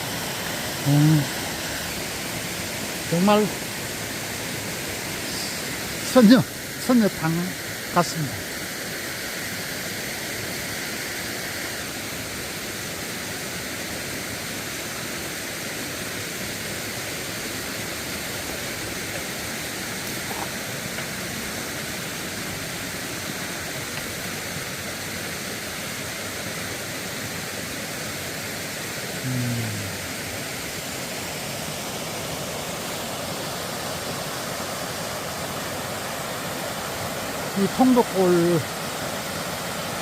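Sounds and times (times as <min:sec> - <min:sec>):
waterfall pouring into pool: 0:00.0 - 0:40.0.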